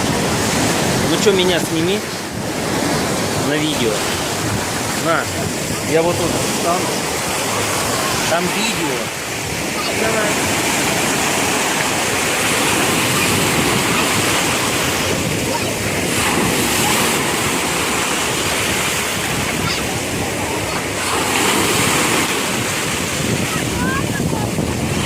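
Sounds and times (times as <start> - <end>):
sea waves washing ashore: 0.0 - 25.0
wind buffeting microphone: 0.0 - 25.0.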